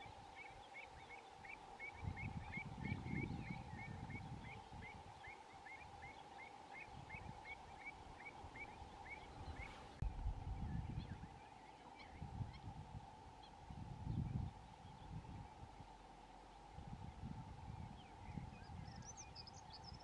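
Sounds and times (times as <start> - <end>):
wind rumble on microphone: 0.0 - 6.1, 6.8 - 20.0.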